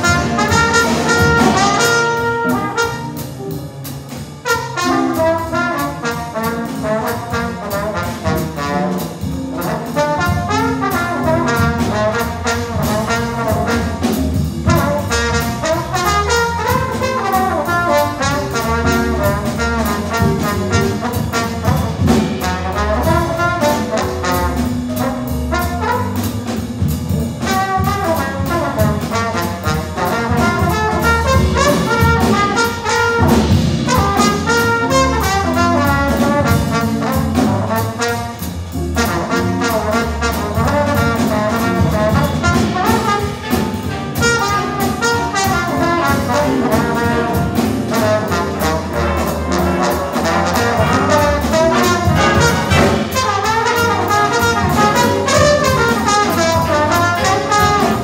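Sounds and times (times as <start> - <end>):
big band jazz: 0.0 - 58.0
trombones: 0.0 - 58.0.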